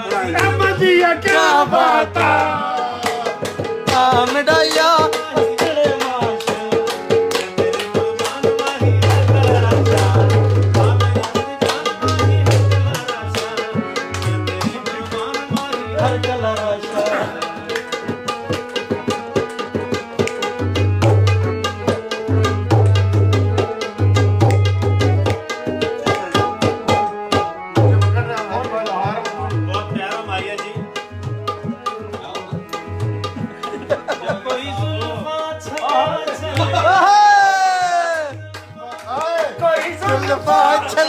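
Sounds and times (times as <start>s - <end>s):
tabla playing fast rhythm: 0.0s - 41.0s.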